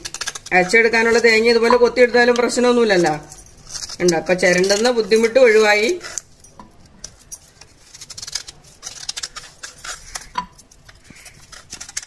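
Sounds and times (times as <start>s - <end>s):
knife scraping coconut shell: 0.0s - 12.0s.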